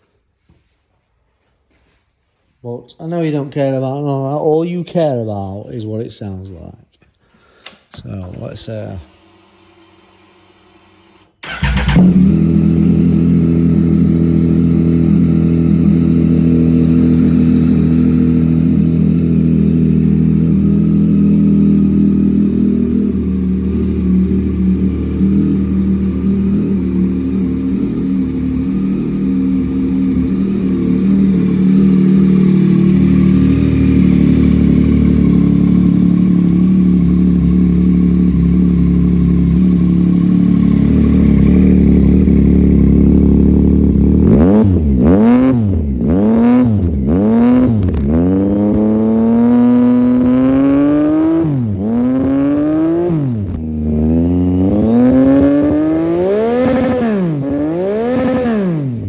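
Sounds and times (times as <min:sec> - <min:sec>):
motorcycle engine idling and revving: 0:10.8 - 0:59.0.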